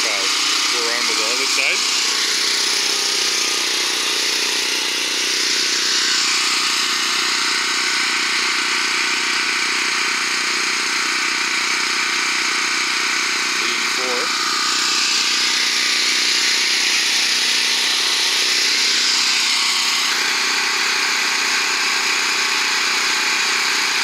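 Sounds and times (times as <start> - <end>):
portable generator running: 0.0 - 24.0.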